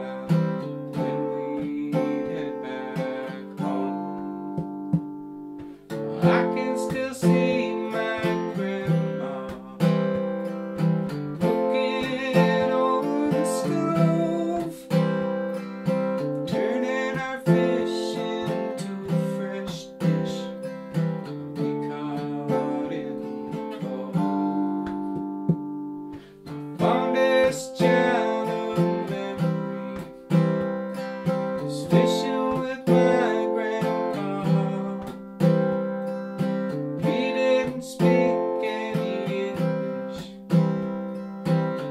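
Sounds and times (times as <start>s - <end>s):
man singing: 0.0s - 4.8s, 5.9s - 25.4s, 26.4s - 40.9s
acoustic guitar strumming: 0.0s - 41.9s.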